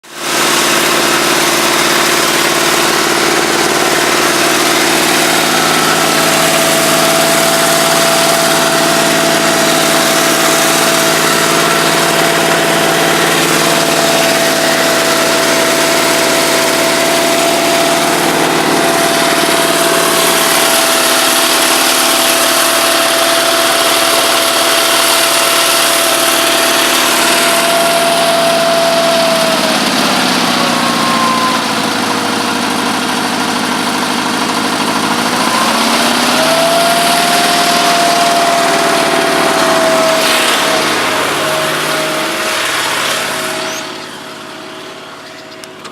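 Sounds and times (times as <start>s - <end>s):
tractor engine idling: 0.0s - 45.9s
steady whine: 0.2s - 33.3s, 34.4s - 45.9s.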